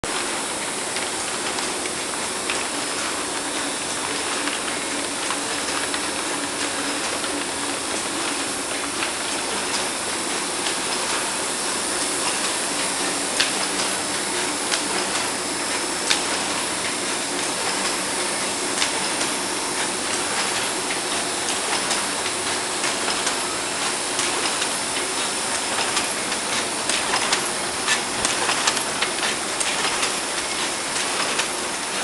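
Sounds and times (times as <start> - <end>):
machine whirring and hissing: 0.1 - 32.0.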